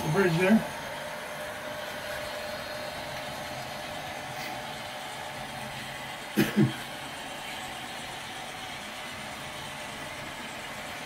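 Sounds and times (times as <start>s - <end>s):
model train motor hum: 0.0s - 11.0s.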